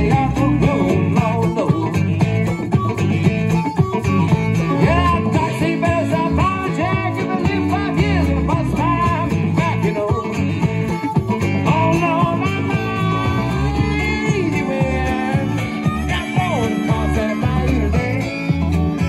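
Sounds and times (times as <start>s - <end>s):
amplified harmonica: 0.0s - 19.0s
congas: 0.0s - 19.0s
electric bass: 0.0s - 19.0s
resonator guitar: 0.0s - 19.0s.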